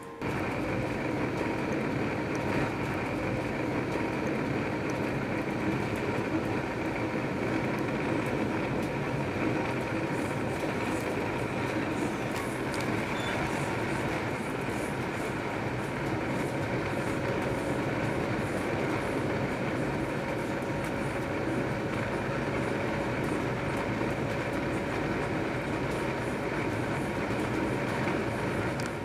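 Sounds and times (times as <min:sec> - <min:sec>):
train wheels rumbling on rails: 0:00.2 - 0:29.0.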